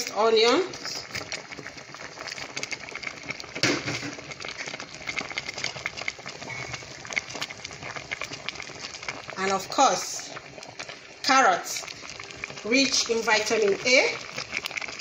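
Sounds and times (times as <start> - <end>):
soup simmering and bubbling: 0.0 - 15.0.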